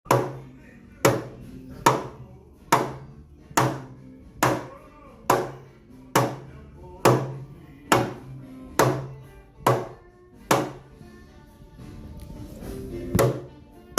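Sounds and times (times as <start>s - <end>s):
background music: 0.1s - 13.9s.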